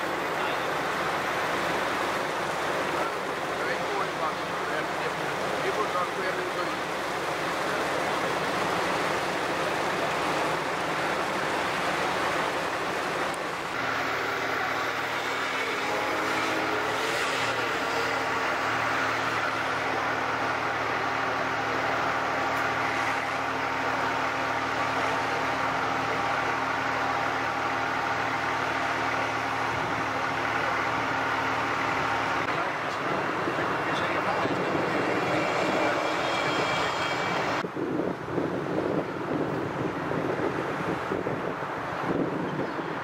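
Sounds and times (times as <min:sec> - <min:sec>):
floodwater rushing: 0:00.0 - 0:37.6
heavy machine engine humming: 0:00.0 - 0:43.0.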